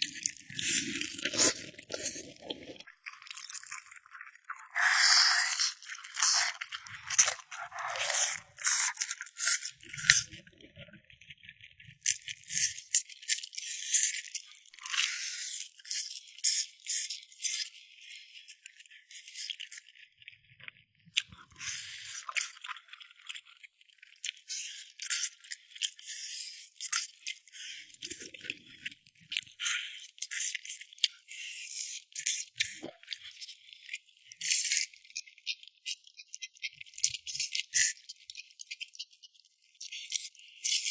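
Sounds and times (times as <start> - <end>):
crunching of crispy food: 0.0 - 10.5, 12.0 - 20.4, 21.0 - 35.2.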